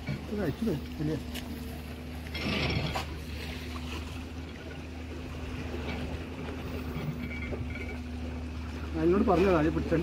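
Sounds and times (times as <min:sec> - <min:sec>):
low motor drone: 0:00.0 - 0:10.0.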